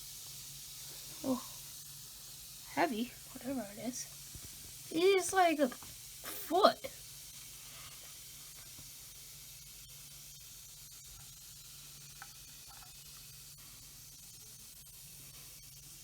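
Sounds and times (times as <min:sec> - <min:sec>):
effervescent fizzing in water: 0:00.0 - 0:16.0.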